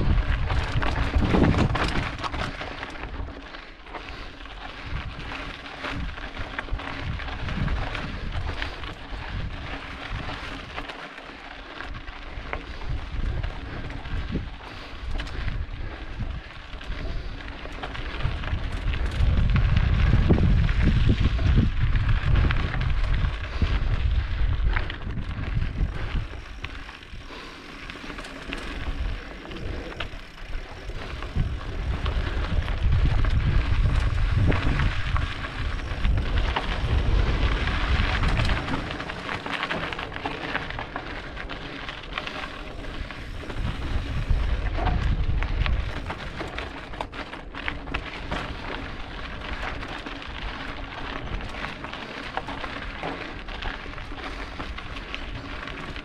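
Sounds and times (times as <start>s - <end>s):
wind buffeting microphone: 0.0s - 11.0s, 11.7s - 56.0s
bike tyres rolling on gravel: 0.0s - 56.0s.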